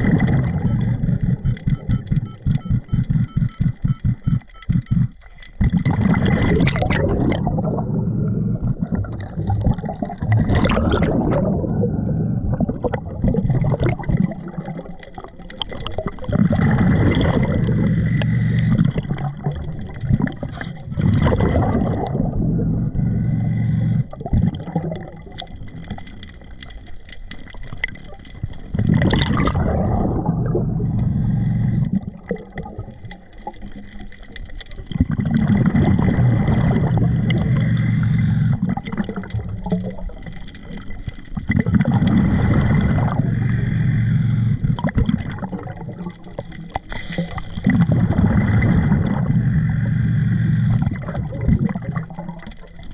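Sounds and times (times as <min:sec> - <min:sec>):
diver exhaling bubbles underwater: 0:00.0 - 0:03.5, 0:04.9 - 0:26.5, 0:27.4 - 0:52.9.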